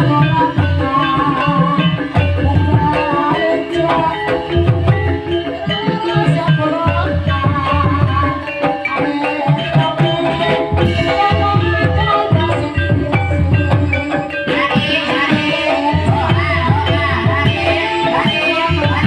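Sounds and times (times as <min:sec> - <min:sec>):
gamelan tuned struck notes: 0:00.0 - 0:19.0
hand drums beating: 0:00.0 - 0:19.0.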